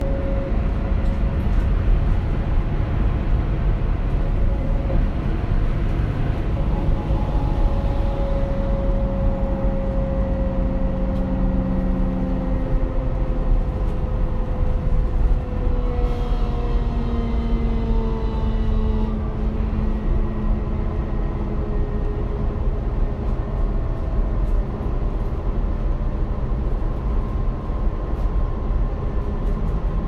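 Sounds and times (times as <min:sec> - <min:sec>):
bus rumbling: 0:00.0 - 0:30.0.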